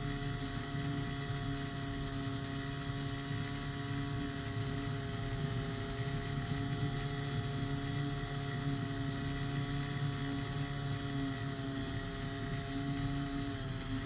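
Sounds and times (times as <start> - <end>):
small engine and propeller drone: 0.0 - 14.0.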